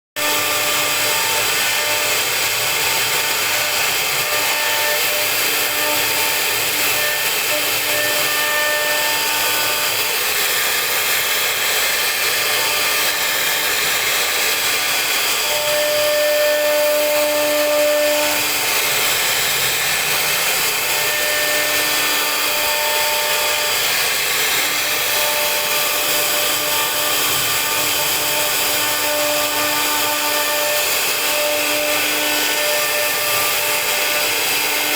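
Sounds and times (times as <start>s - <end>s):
router spindle carving wood: 0.2s - 34.9s.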